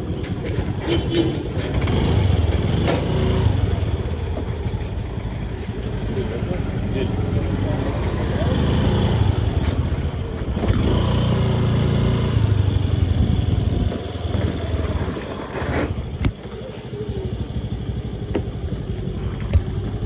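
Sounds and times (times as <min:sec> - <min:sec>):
motorbike engine rumbling: 0:00.0 - 0:20.0.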